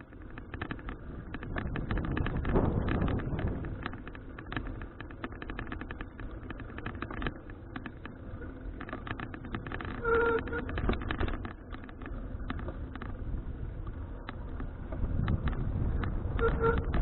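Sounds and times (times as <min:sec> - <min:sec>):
bicycle clicking and rattling: 0:00.0 - 0:17.0
tyre and wind rumble: 0:00.0 - 0:17.0.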